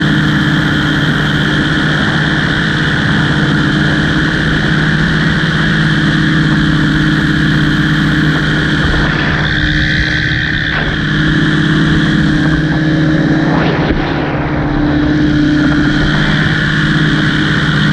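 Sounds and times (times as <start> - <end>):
aircraft engine running: 0.0 - 17.9.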